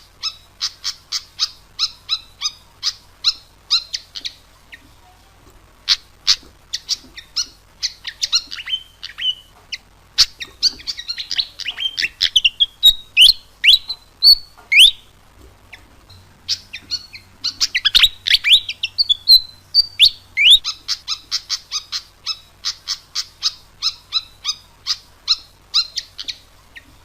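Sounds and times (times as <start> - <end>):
bird calling: 0.0 - 5.0, 5.8 - 27.0.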